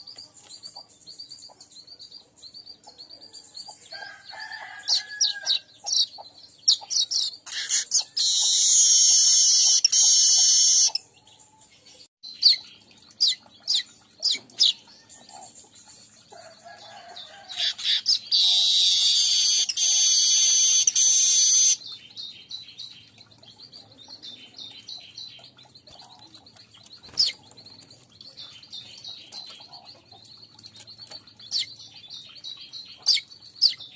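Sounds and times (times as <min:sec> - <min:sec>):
bird chirps: 0:00.0 - 0:33.9.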